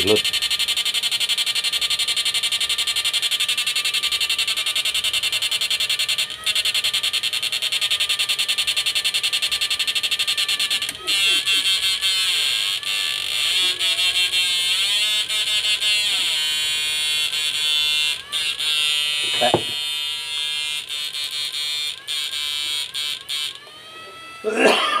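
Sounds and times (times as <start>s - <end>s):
warbling electronic buzzing tone: 0.0s - 25.0s.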